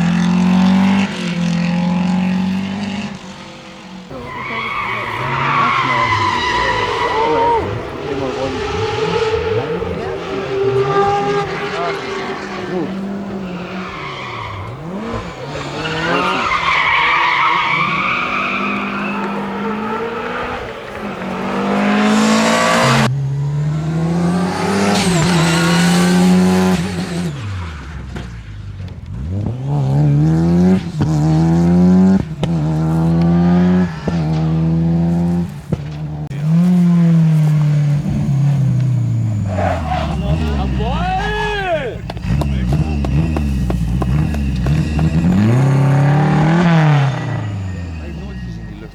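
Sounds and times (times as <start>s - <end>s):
rally car engine revving: 0.0s - 48.9s
tyres squealing and skidding: 3.0s - 48.9s.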